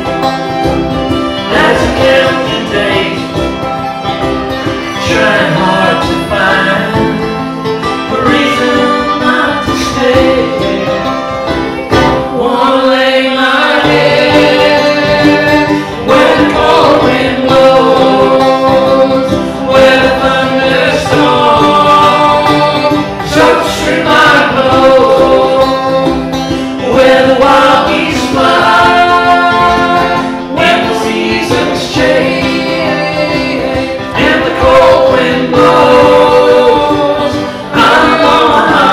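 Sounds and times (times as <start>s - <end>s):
plucked string instruments: 0.0s - 38.9s
person singing: 1.3s - 3.8s, 4.5s - 38.9s.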